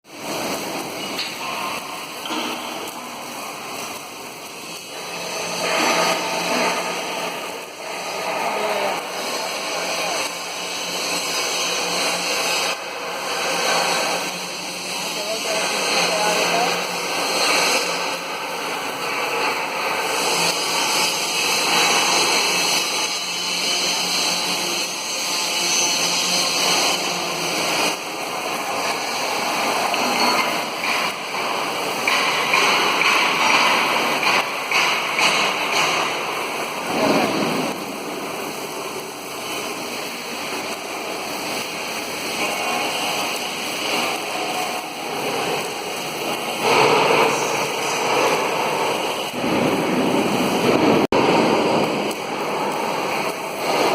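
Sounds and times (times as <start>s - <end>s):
torch flame hissing: 0.1s - 53.9s.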